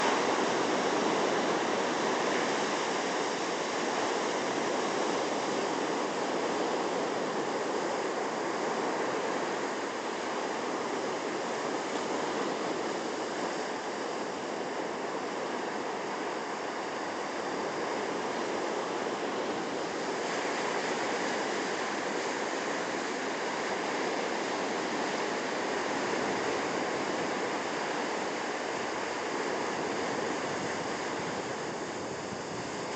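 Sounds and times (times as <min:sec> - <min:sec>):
waves washing onto beach: 0:00.0 - 0:32.9.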